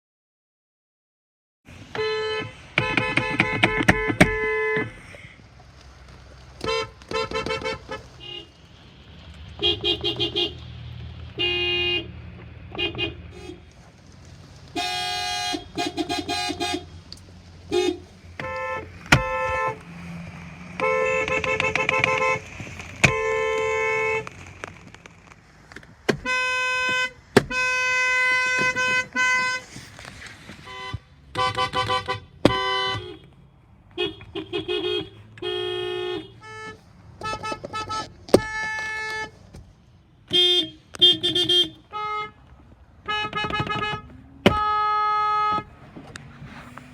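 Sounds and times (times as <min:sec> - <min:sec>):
car horns tooting: 0:01.9 - 0:05.2, 0:06.6 - 0:08.6, 0:09.5 - 0:10.7, 0:11.3 - 0:13.8, 0:14.7 - 0:17.0, 0:17.6 - 0:25.4, 0:26.0 - 0:39.5, 0:40.2 - 0:46.9.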